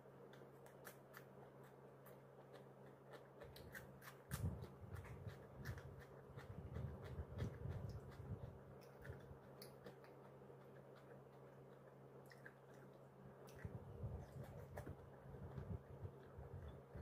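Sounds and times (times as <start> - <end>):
close-up chewing: 0.0 - 17.0.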